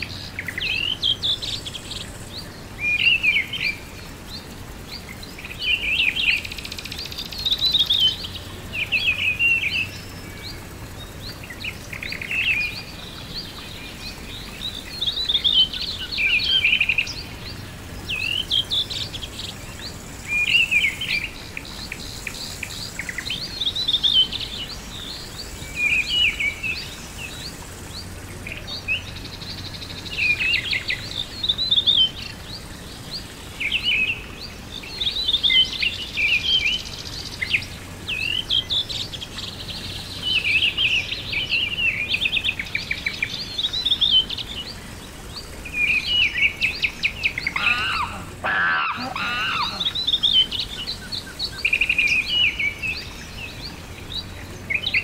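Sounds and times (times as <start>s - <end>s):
background hiss: 0.0s - 55.0s
bird chirping: 0.0s - 55.0s.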